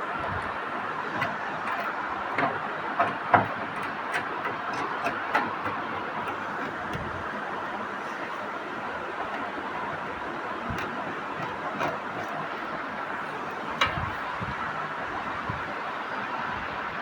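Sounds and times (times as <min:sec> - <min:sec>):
steady mechanical noise: 0:00.0 - 0:17.0.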